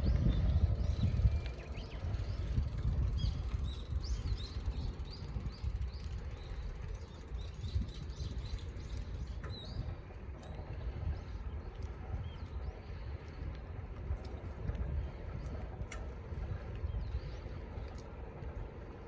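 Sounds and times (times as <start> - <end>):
small birds chirping: 0.0 - 18.7
wind rumble on microphone: 0.0 - 19.0.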